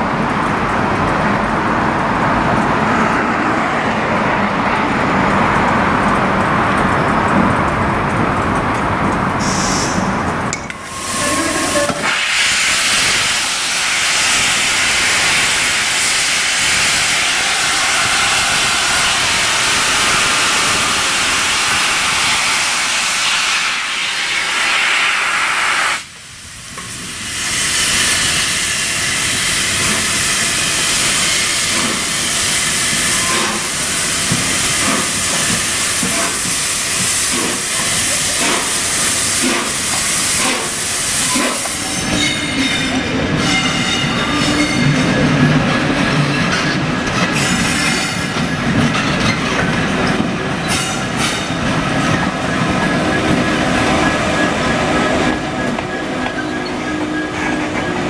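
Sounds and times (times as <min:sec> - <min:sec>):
steam locomotive venting steam: 0:09.4 - 0:58.0.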